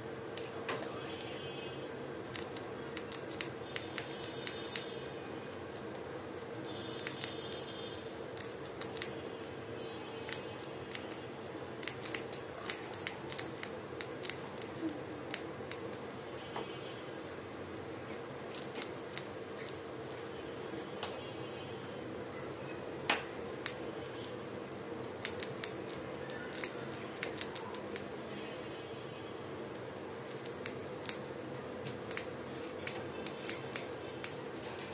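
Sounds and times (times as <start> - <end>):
background hum: 0.0 - 34.9
rat crunching food: 0.2 - 17.0, 18.0 - 20.9, 23.0 - 28.8, 29.6 - 34.9.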